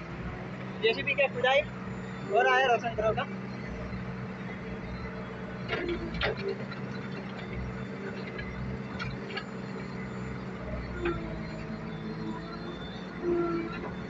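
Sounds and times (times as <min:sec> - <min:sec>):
diesel engine under hydraulic load: 0:00.0 - 0:14.0.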